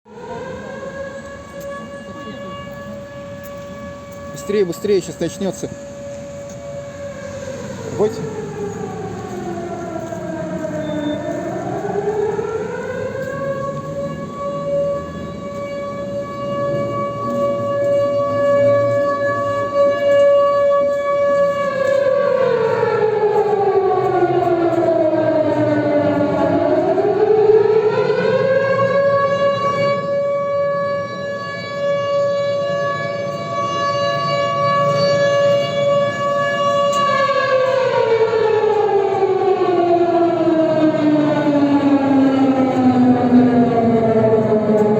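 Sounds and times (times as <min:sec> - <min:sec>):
air-raid siren wailing: 0:00.1 - 0:44.9.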